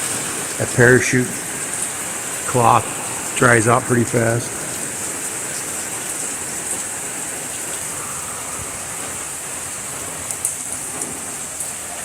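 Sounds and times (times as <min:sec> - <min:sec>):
sharp water drips: 0:00.0 - 0:12.0
steady rain falling: 0:00.0 - 0:12.0.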